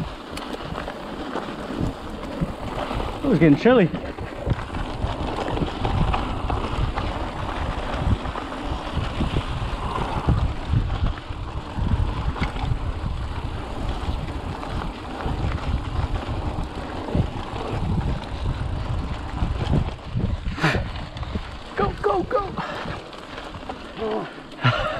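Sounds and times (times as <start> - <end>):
bike bumps and rattles: 0.0 - 24.9
tyres rumbling on dirt: 0.0 - 24.9
wind on microphone: 0.0 - 24.9.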